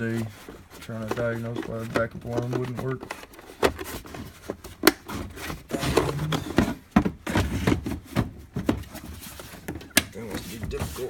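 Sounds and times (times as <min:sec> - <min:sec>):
tools rubbing and scraping: 0:00.0 - 0:08.2, 0:08.8 - 0:11.0.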